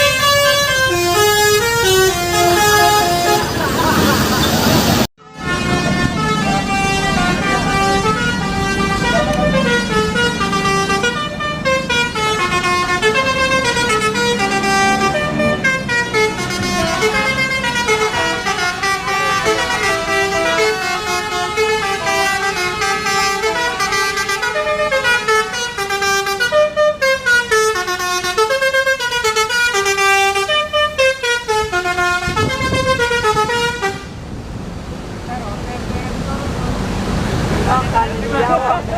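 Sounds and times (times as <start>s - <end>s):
bus musical horn melody: 0.0s - 4.6s, 5.2s - 34.2s.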